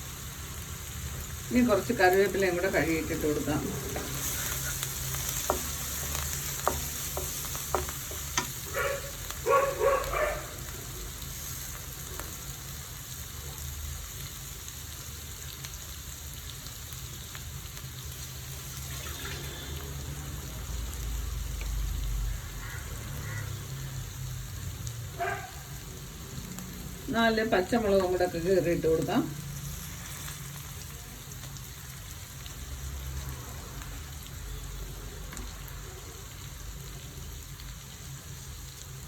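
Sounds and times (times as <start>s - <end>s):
garlic sizzling in hot oil: 0.0s - 39.0s.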